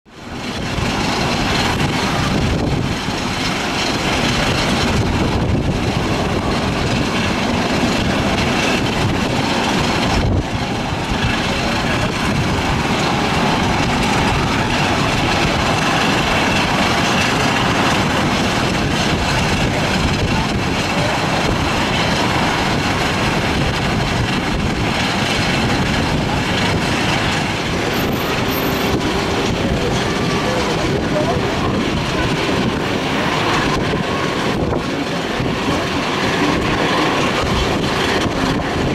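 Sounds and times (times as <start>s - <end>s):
jet engines roaring: 0.1s - 38.9s
wind buffeting microphone: 0.2s - 38.9s.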